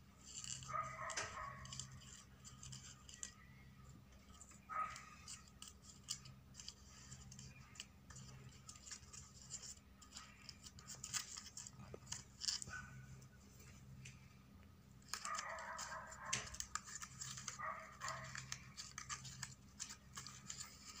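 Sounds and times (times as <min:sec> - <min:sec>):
paper petals rustling and crackling: 0:00.2 - 0:14.3, 0:15.0 - 0:21.0.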